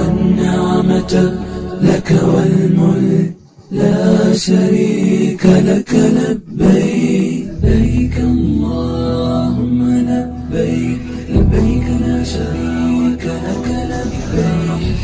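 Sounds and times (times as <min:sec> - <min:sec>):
voices chanting: 0:00.0 - 0:15.0.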